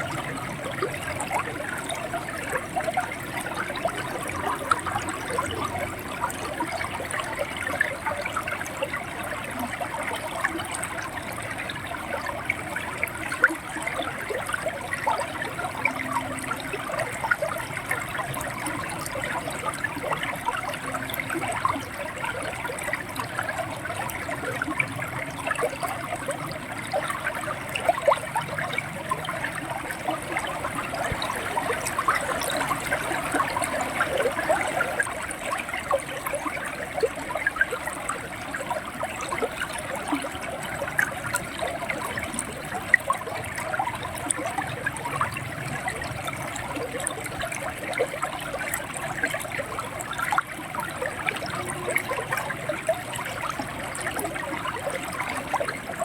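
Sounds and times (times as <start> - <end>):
river water gurgling over stones: 0.0 - 56.0.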